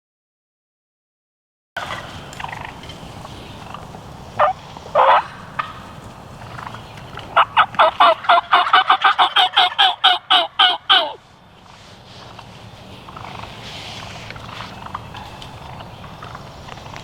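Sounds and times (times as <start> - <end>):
turkeys calling: 1.8 - 17.0.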